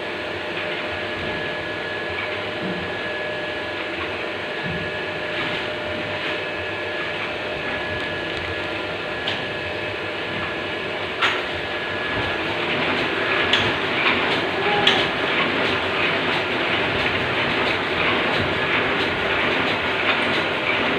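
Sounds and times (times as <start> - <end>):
machine hum and whir: 0.0 - 20.9.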